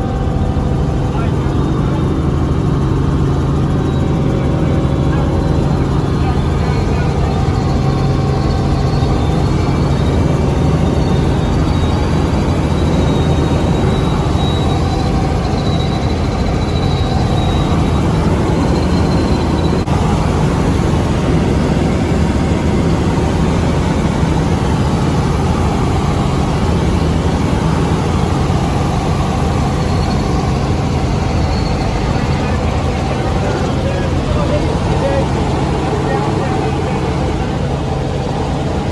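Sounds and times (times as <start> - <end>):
faint high whine: 0.0 - 38.9
helicopter engine and rotor drone: 0.0 - 38.9.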